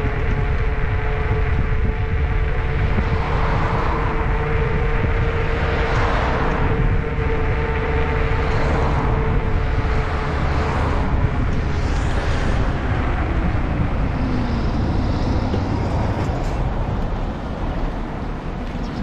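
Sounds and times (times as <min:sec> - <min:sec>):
road noise: 0:00.0 - 0:19.0
wind rushing over microphone: 0:00.0 - 0:19.0.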